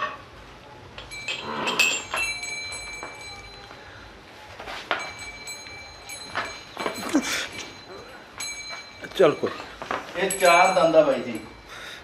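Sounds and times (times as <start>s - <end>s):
light clinks: 0.9s - 3.9s, 4.9s - 12.0s.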